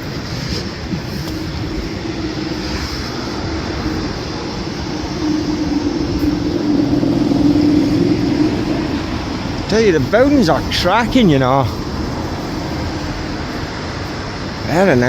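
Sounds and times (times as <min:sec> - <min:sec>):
street traffic: 0:00.0 - 0:15.0
vehicle approaching: 0:00.0 - 0:15.0.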